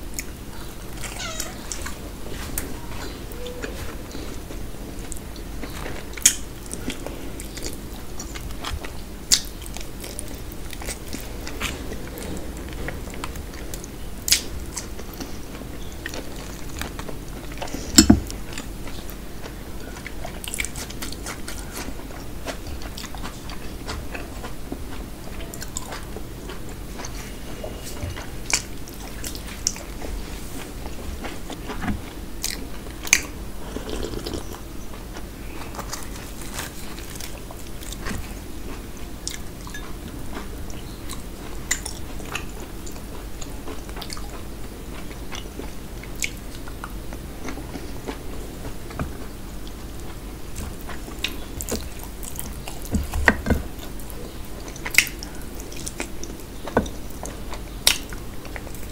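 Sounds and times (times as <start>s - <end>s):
chewing and mouth sounds: 0.0s - 58.9s.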